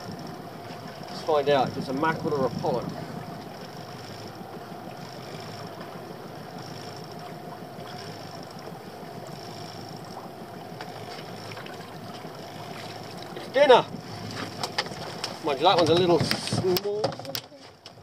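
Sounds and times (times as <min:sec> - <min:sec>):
faint steady hum: 0:00.0 - 0:15.9
water noise around boat: 0:00.0 - 0:18.0
wind: 0:00.0 - 0:18.0.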